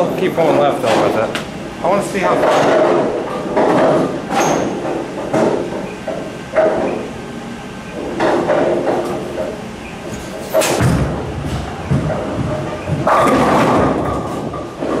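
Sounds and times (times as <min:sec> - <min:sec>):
bowling machinery knocks and clunks: 0:00.0 - 0:01.5, 0:02.2 - 0:07.1, 0:07.9 - 0:15.0
steady mechanical hum: 0:00.0 - 0:15.0.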